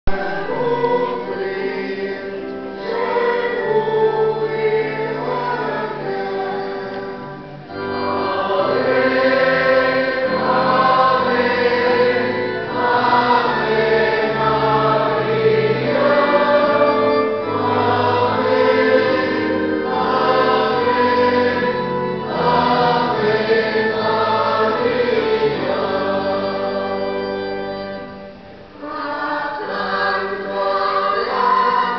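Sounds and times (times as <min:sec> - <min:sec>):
choir singing a hymn: 0:00.1 - 0:31.9.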